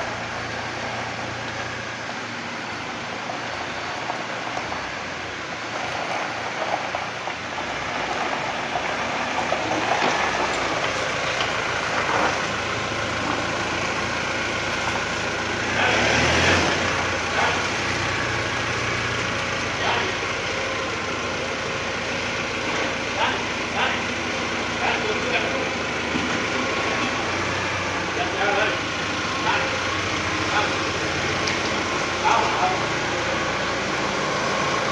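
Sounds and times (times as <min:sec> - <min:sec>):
street and workshop noise: 0:00.0 - 0:34.9
vehicle engine running: 0:00.0 - 0:34.9.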